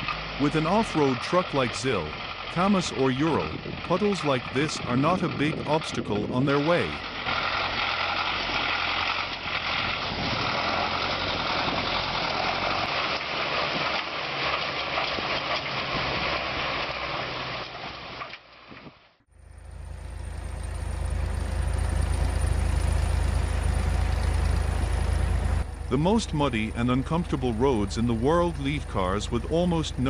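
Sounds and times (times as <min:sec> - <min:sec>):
deep low engine rumble: 0:00.0 - 0:17.7, 0:19.2 - 0:30.0
off-road truck engine running: 0:00.0 - 0:30.0.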